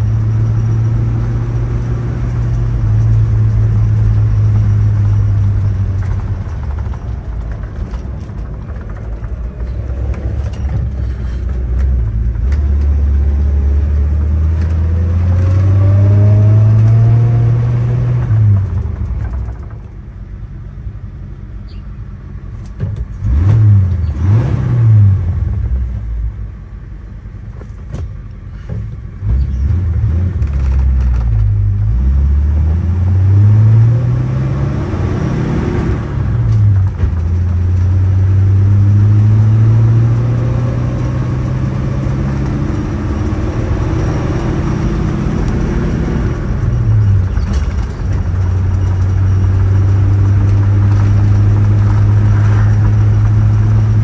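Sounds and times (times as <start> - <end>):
car engine accelerating: 0.0 - 26.7, 28.9 - 54.0
wind and road noise: 0.0 - 54.0.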